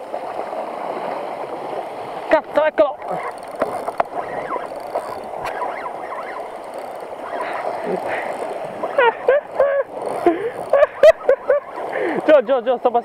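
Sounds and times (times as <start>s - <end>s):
sea water washing against rocks: 0.0s - 13.0s.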